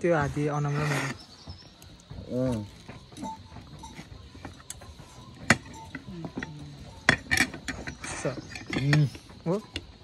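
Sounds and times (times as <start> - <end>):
sharp clicks and knocks: 1.2 - 10.0.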